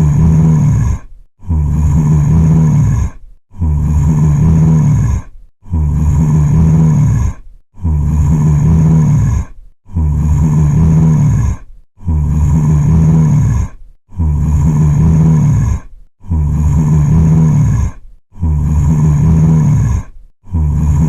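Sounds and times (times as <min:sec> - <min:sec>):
zombie groan: 0:00.0 - 0:21.0.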